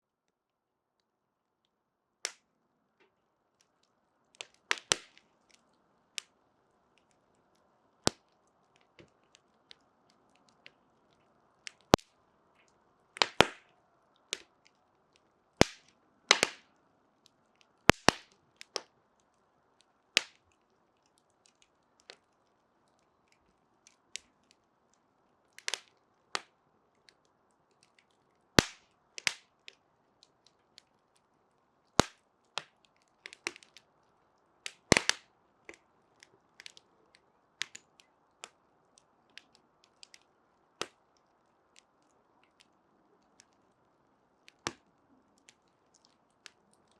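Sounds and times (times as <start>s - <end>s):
faint steady hiss: 0.0s - 46.9s
burning wood crackling: 3.0s - 46.9s.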